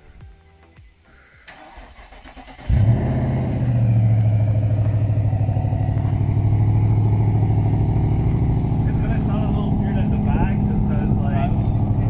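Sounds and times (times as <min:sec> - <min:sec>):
car engine starting and idling: 0:01.4 - 0:12.0.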